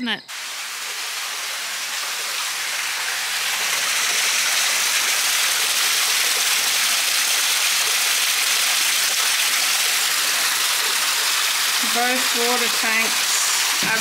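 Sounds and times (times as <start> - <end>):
heavy rain: 0.3 - 14.0
water spilling over tank: 0.3 - 14.0.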